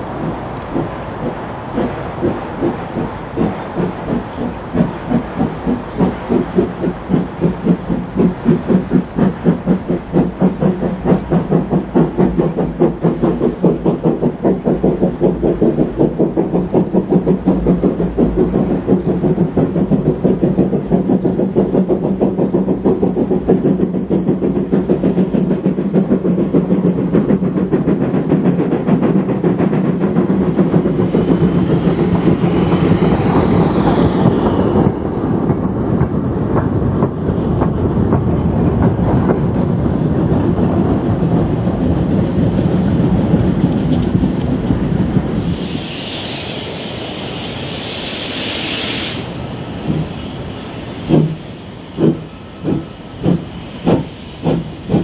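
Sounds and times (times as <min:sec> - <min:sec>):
steam hiss: 0:00.0 - 0:36.2, 0:40.0 - 0:55.0
steam locomotive exhaust beats: 0:00.0 - 0:55.0.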